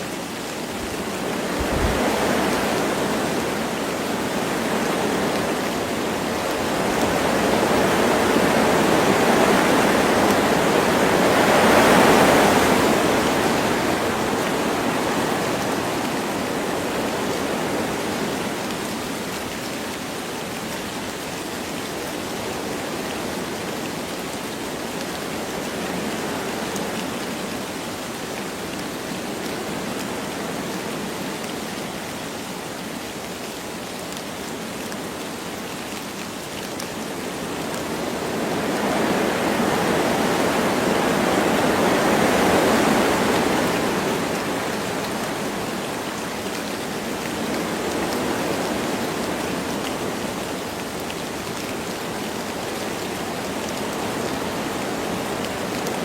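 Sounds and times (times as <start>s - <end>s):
light rain falling: 0.0s - 56.0s
wind through trees: 0.0s - 56.0s.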